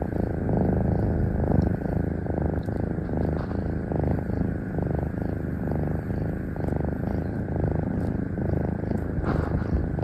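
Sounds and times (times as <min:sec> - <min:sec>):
kittens purring: 0:00.0 - 0:10.0.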